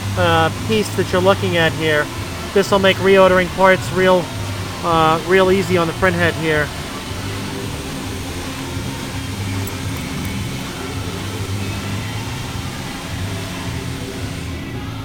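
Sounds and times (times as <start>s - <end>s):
hiss: 0.0s - 15.0s
low mechanical hum: 0.0s - 15.0s.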